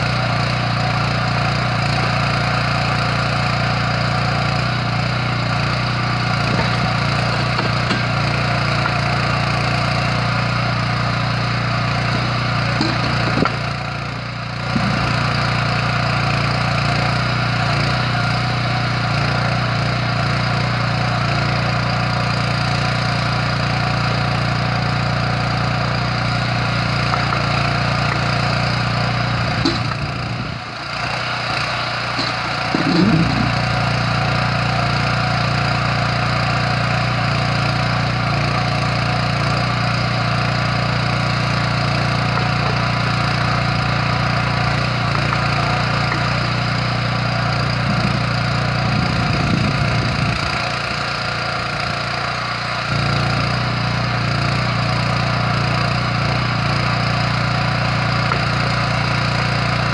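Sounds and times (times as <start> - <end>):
petrol engine running: 0.0 - 59.9.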